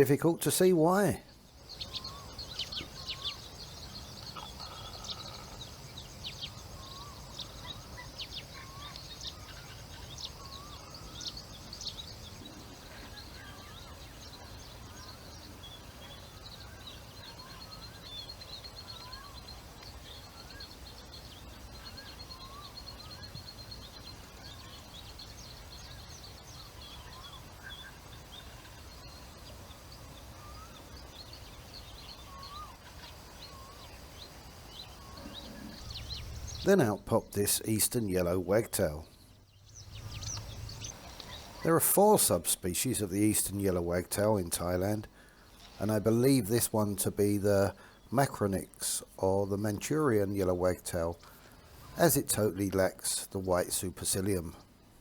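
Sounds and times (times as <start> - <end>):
wild birds calling: 0.0 - 55.0.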